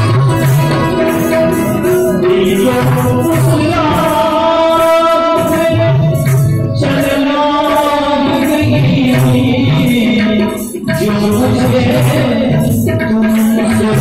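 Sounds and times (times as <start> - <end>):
instrumental accompaniment: 0.0 - 14.0
person singing: 0.0 - 14.0.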